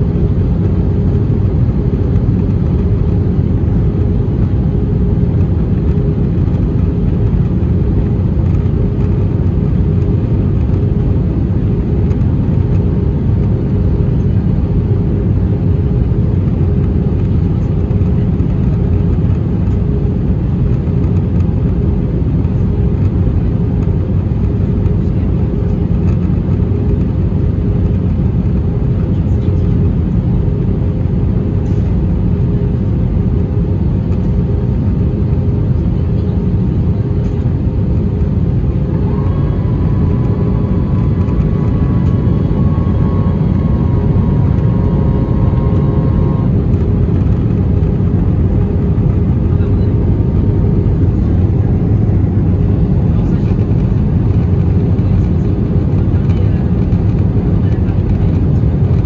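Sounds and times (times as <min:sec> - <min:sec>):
airplane cabin rumble: 0:00.0 - 0:59.0
faint steady hums: 0:00.0 - 0:59.0.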